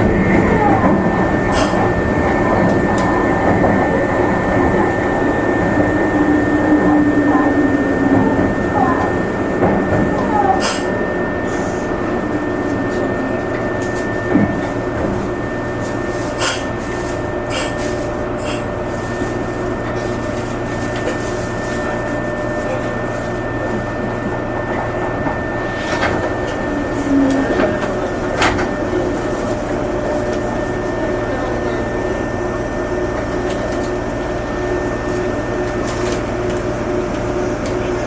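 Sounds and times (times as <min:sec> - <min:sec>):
train rumble and whine: 0:00.0 - 0:38.0.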